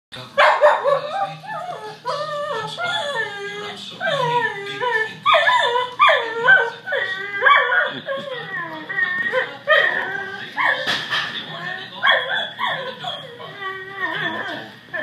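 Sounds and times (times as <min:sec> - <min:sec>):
dog whining and yipping: 0:00.8 - 0:10.9, 0:12.1 - 0:15.0.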